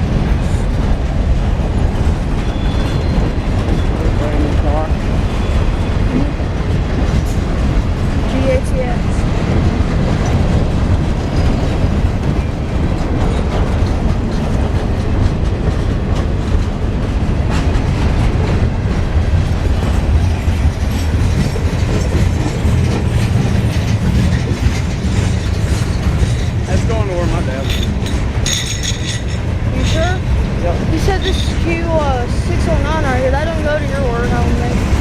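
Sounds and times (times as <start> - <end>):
freight train wheels rumbling: 0.0 - 35.0
wheels clicking over rail joints: 6.5 - 35.0.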